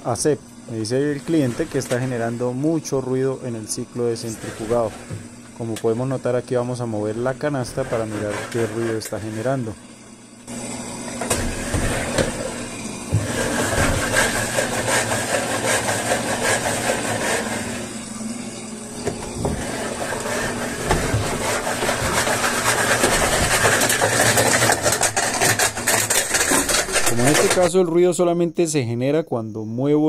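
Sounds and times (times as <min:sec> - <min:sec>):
washing machine basket scraping: 0:00.7 - 0:09.8, 0:10.5 - 0:27.8.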